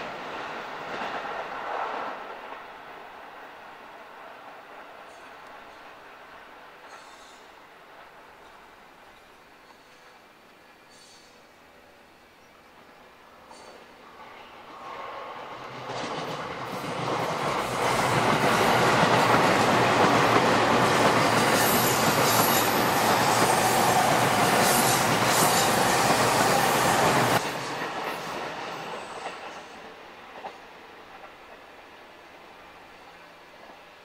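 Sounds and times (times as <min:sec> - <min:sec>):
electric train passing: 0:00.0 - 0:34.0
wheels rumbling on rail: 0:00.0 - 0:34.0.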